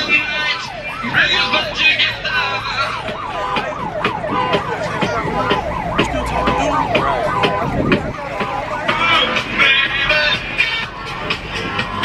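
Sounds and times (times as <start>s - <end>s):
siren yelping: 0.0s - 11.0s.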